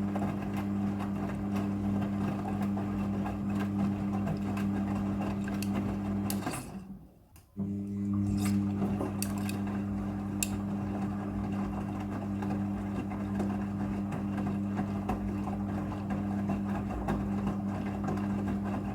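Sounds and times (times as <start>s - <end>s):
washing machine churning: 0.0s - 18.9s
washing machine hum: 0.0s - 18.9s.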